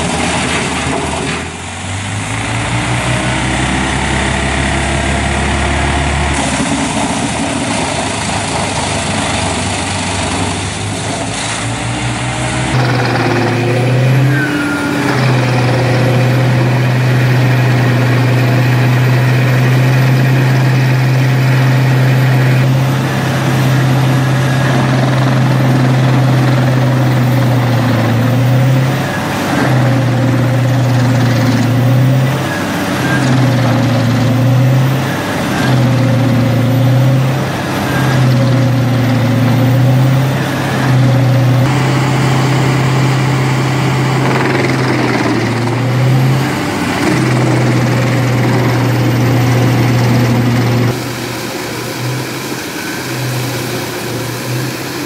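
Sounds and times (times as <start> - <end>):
wood chipper droning: 0.0 - 55.0.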